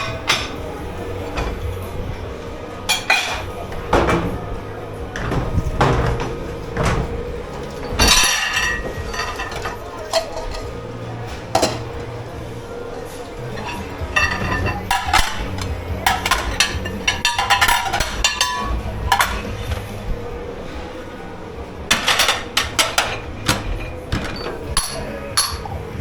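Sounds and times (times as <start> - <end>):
dishes and cutlery clattering: 0.0 - 26.0
low machine hum: 0.0 - 26.0.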